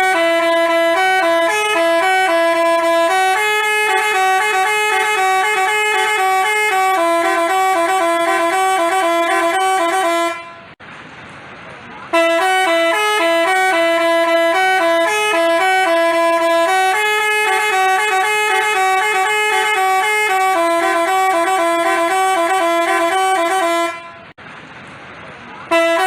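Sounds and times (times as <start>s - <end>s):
musical bus horn playing tune: 0.0s - 10.8s, 12.1s - 24.4s, 25.7s - 26.0s.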